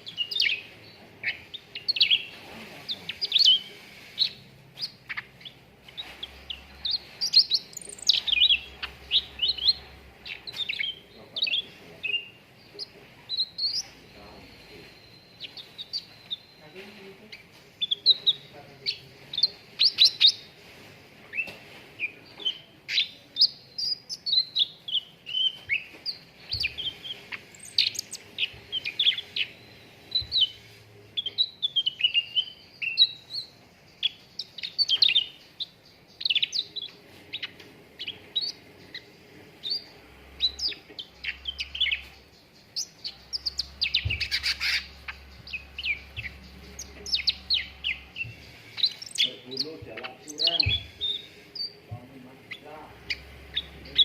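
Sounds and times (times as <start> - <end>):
songbird chirping and whistling: 0.0 - 20.7, 21.3 - 54.0.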